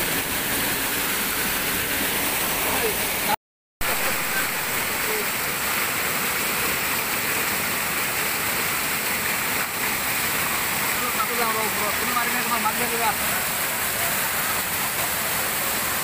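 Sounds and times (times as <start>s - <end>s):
waterfall pouring over rocks: 0.0s - 16.0s.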